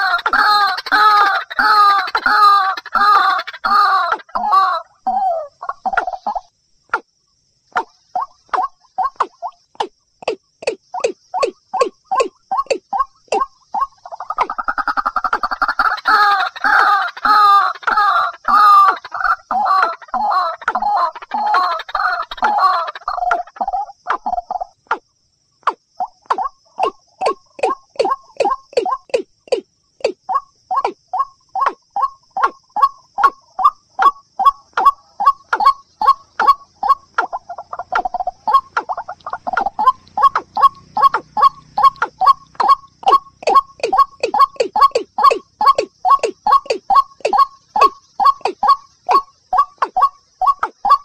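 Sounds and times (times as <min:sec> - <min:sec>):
bird clucking notes: 0:00.0 - 0:07.0, 0:07.7 - 0:25.0, 0:25.6 - 0:51.0
bird croaking calls: 0:00.0 - 0:07.0, 0:07.7 - 0:51.0.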